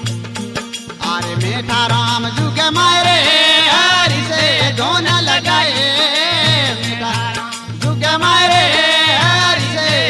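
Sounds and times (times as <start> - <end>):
devotional music: 0.0 - 10.0.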